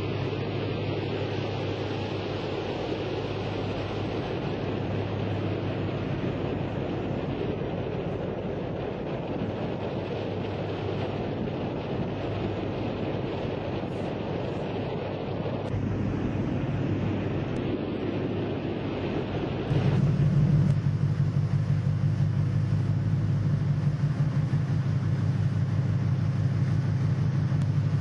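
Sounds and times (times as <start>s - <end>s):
sea rushing: 0.0s - 28.0s
ship low hum: 0.0s - 28.0s
wind on microphone: 0.0s - 28.0s.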